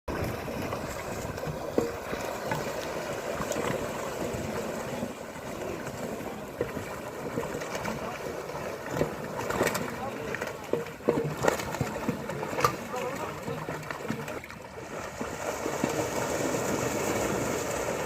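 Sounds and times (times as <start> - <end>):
water sloshing: 0.1 - 18.0.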